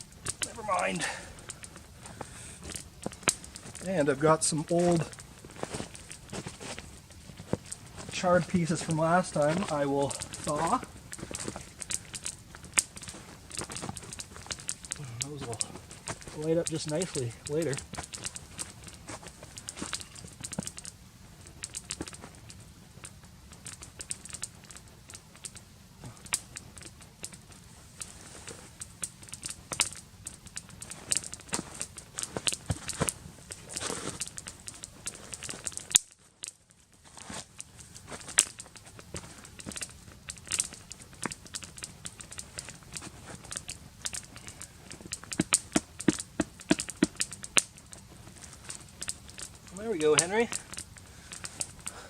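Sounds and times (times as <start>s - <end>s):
loud wood snaps: 0.0s - 27.7s, 28.6s - 36.5s, 37.2s - 52.0s
kindling crackling: 0.0s - 52.0s.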